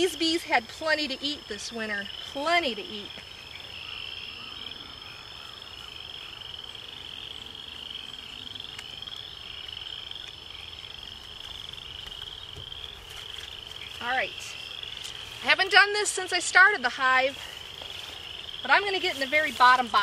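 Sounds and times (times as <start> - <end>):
frogs trilling: 0.0 - 20.0.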